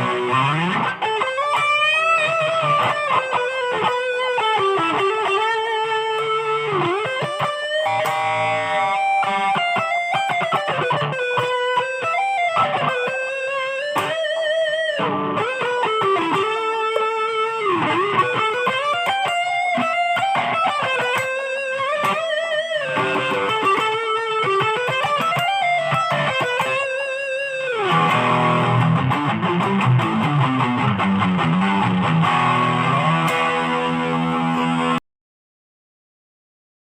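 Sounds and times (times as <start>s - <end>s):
electric guitar lead lines: 0.0s - 35.0s.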